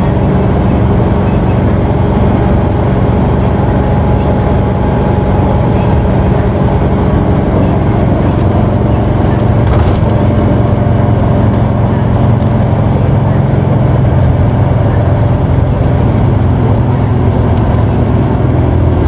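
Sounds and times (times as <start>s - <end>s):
bus diesel engine droning: 0.0s - 19.0s
road noise: 0.0s - 19.0s.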